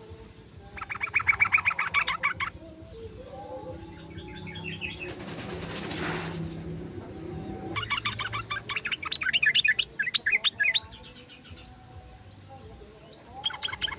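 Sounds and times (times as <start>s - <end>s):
bird chattering: 0.6s - 11.7s, 12.6s - 13.9s.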